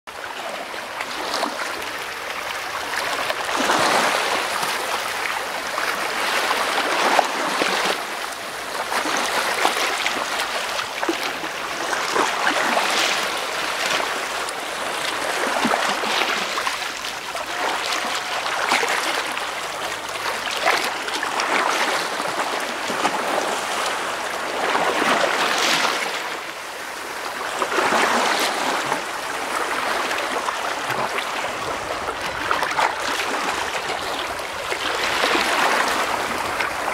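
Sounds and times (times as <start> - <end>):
sea waves washing over rocks: 0.2 - 36.9.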